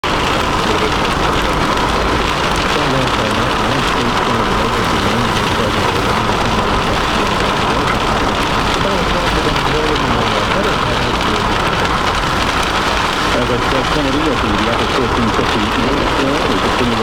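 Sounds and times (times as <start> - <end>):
steady rain on a car: 0.0 - 17.0.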